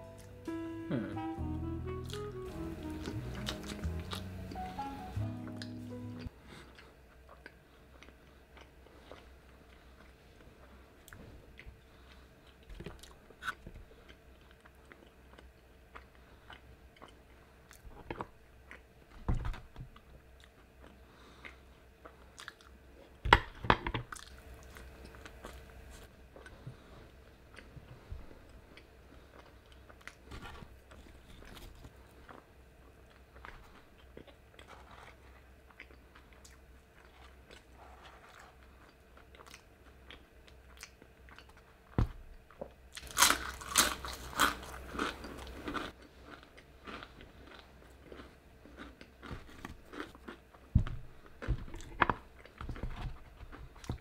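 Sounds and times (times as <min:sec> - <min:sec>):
person chewing crunchy food: 0:01.9 - 0:23.2, 0:24.1 - 0:54.0.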